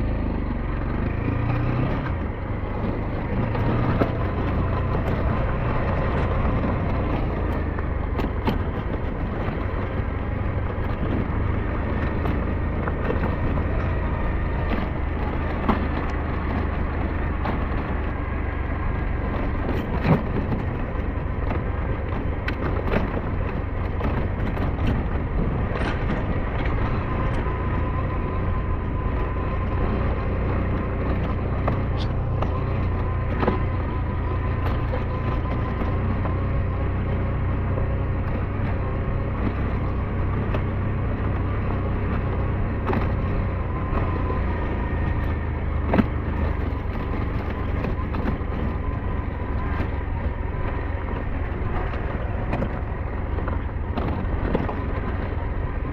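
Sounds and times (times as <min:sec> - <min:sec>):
motorcycle engine low rumble: 0:00.0 - 0:55.9.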